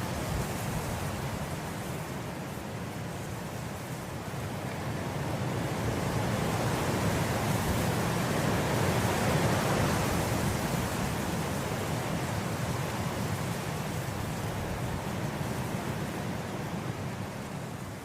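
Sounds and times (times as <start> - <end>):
wind through grass: 0.0 - 18.0.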